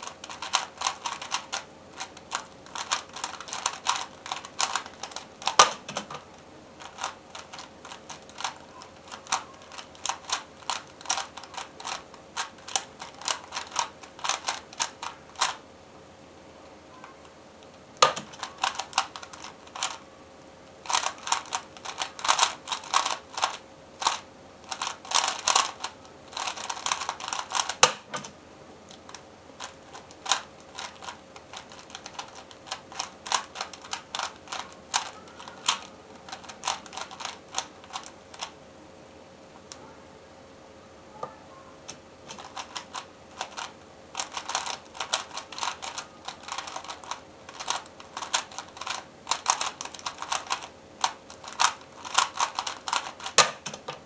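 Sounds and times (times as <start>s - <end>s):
puzzle cube clicking and rattling: 0.0s - 15.6s, 18.0s - 20.0s, 20.8s - 28.3s, 28.9s - 38.5s, 41.9s - 54.0s.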